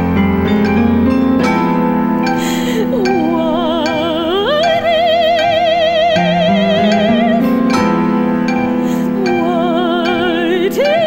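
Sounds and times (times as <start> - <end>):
instrumental ensemble chord: 0.0 - 11.0
operatic singing: 0.0 - 11.0.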